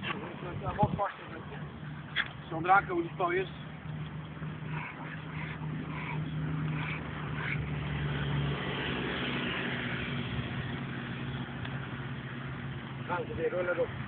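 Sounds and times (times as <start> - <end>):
engine running with low hum: 0.0 - 14.0.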